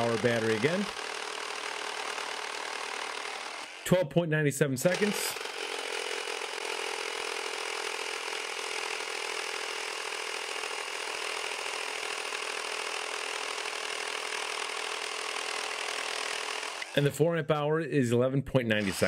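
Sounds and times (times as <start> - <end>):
reciprocating saw cutting wood: 0.0 - 4.0, 4.8 - 17.1, 18.8 - 19.0.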